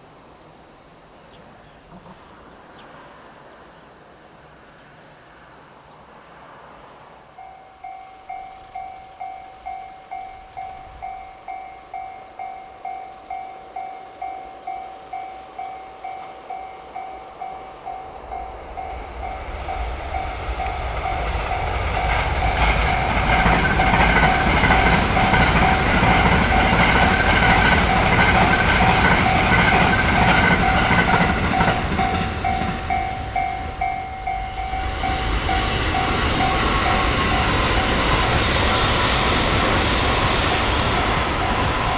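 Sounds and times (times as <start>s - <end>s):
electric train passing at speed: 0.0s - 41.9s
level crossing warning bell dinging: 7.4s - 41.9s.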